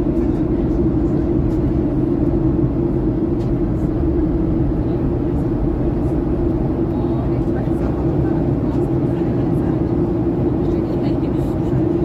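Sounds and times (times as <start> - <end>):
airliner engines and airflow drone: 0.0 - 12.0
constant humming tone: 0.0 - 12.0.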